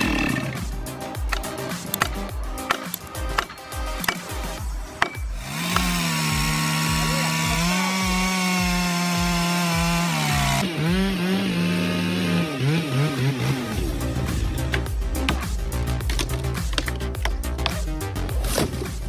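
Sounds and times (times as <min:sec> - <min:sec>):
chainsaw cutting at high revs: 0:00.0 - 0:16.9.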